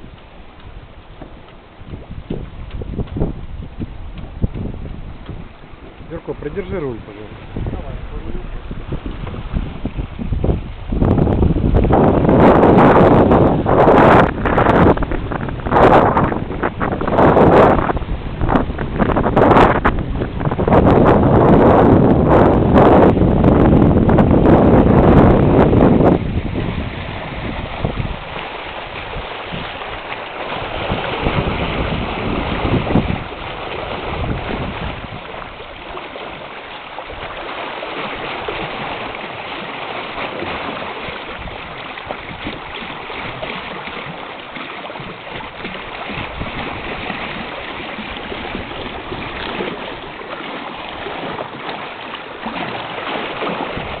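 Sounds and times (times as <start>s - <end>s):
hull rushing through water: 0.0s - 54.0s
wind buffeting microphone: 0.0s - 54.0s.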